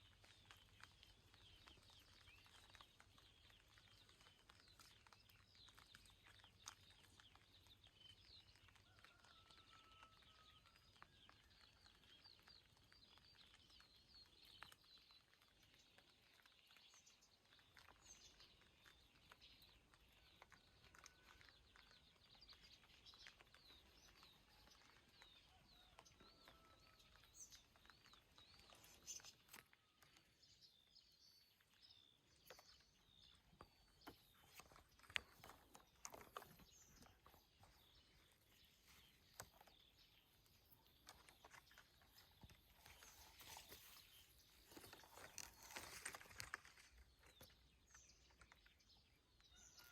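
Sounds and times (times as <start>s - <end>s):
raindrops ticking: 0.0s - 43.4s
faint birdsong chirps: 0.0s - 49.9s.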